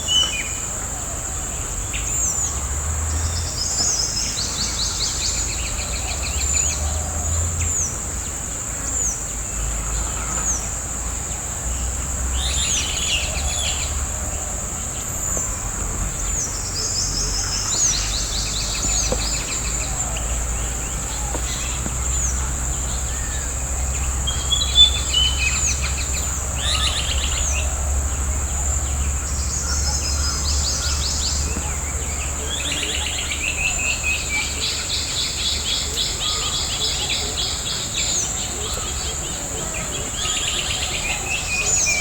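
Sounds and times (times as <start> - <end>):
birds calling and trilling: 0.0 - 42.0.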